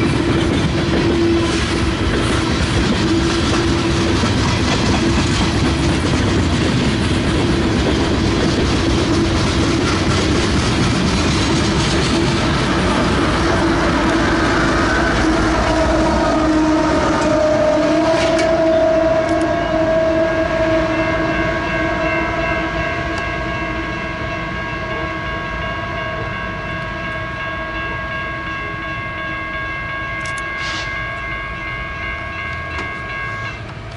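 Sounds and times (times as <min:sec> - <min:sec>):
crossing warning bell ringing: 0:00.0 - 0:33.9
diesel locomotives rolling past: 0:00.0 - 0:33.9.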